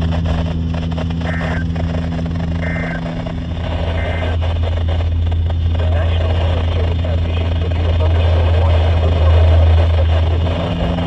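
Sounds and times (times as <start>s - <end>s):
steady low hum: 0.0s - 11.0s
harsh two-tone radio buzzes: 0.1s - 11.0s.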